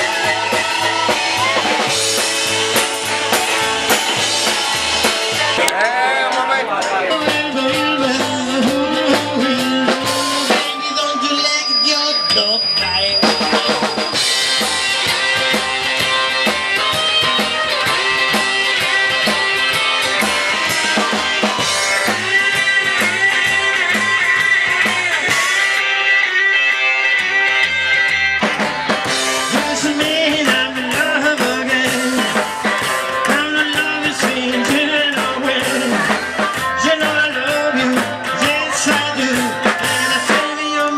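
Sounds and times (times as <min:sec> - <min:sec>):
drum kit beat: 0:00.0 - 0:40.9
rock band playing: 0:00.0 - 0:40.9.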